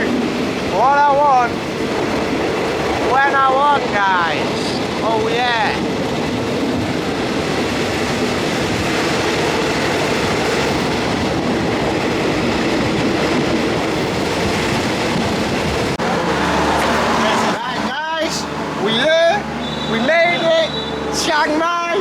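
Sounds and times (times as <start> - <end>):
passenger train running: 0.0 - 22.0.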